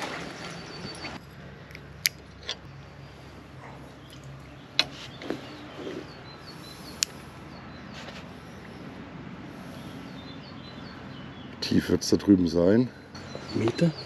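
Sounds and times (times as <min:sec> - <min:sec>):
low outdoor hush: 0:00.1 - 0:14.0.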